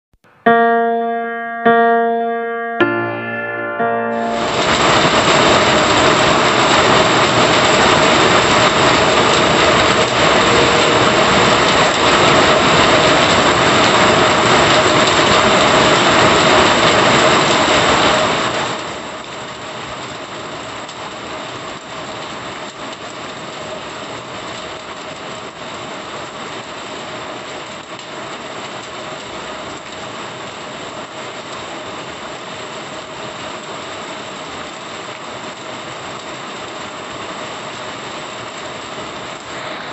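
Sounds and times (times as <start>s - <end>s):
heavy rain on paved road: 4.5s - 39.9s.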